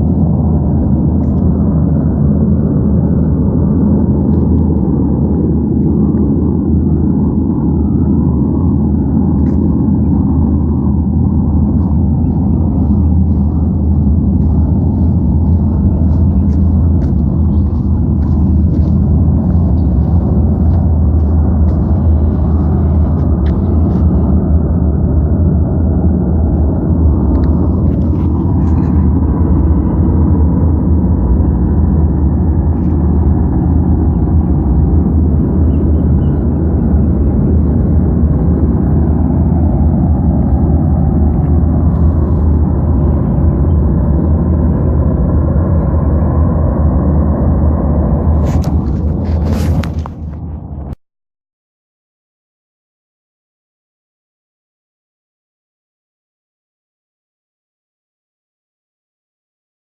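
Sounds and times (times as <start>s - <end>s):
low rumbling drone: 0.0s - 51.0s.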